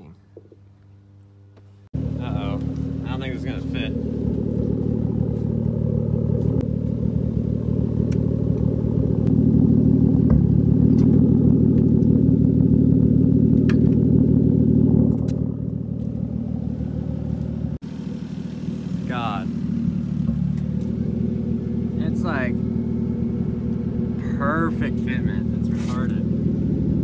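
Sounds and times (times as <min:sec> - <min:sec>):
car engine idling: 0:02.0 - 0:27.0.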